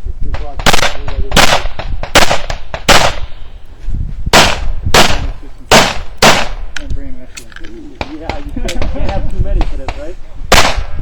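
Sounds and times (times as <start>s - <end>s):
pistol shots: 0.3s - 3.5s, 4.3s - 11.0s.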